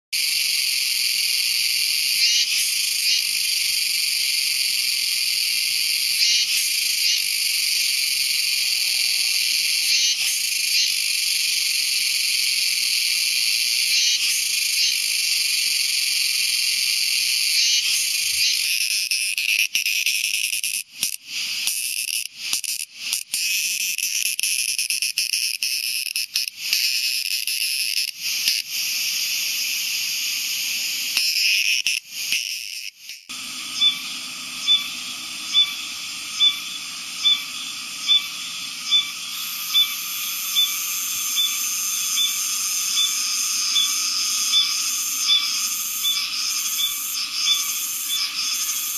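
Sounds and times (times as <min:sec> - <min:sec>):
cicada buzzing: 0:00.2 - 0:48.9.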